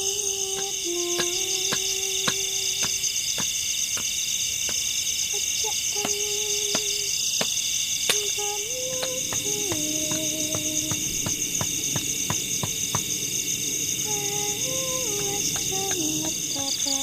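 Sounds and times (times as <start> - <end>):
crickets and insects chorus: 0.0 - 17.0.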